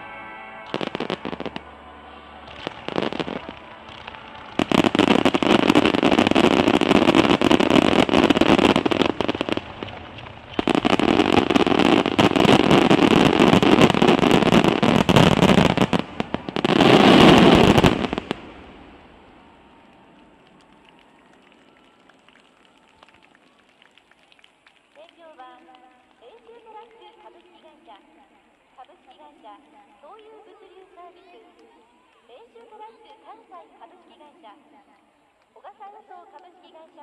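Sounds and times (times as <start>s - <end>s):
fireworks bursting and crackling: 0.7s - 1.7s, 2.4s - 37.0s.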